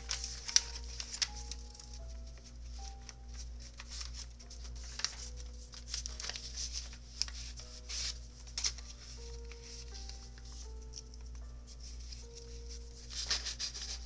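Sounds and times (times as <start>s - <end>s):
paper pages rustling: 0.0s - 14.0s
quiet melody of held notes: 0.0s - 14.0s.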